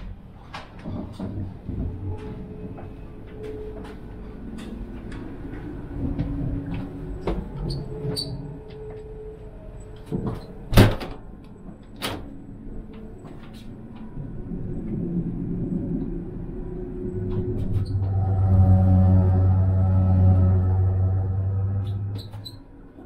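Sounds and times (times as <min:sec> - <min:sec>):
moving train rumble: 0:00.0 - 0:23.0.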